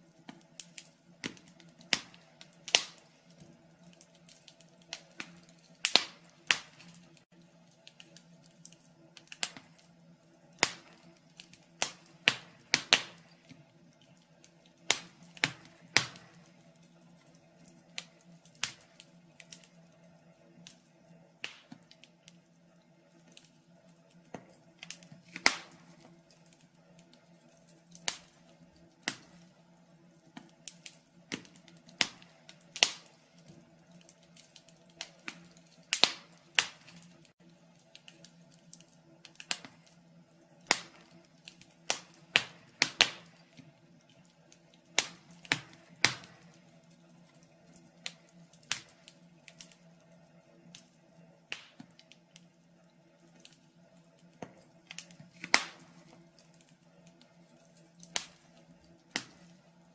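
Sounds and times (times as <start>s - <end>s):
faint steady hum: 0.0s - 59.9s
wood fire crackling: 0.0s - 59.9s.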